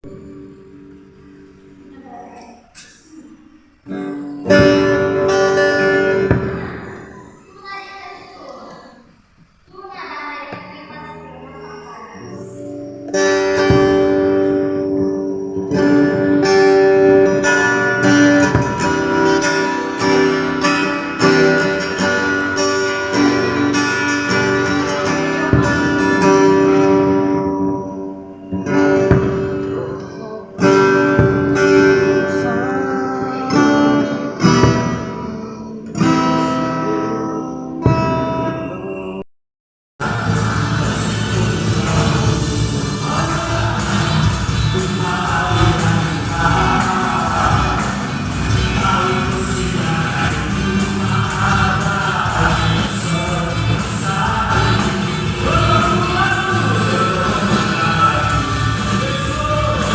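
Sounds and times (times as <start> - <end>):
acoustic guitar strumming chords: 0.0 - 8.4, 9.2 - 39.2, 40.0 - 59.9.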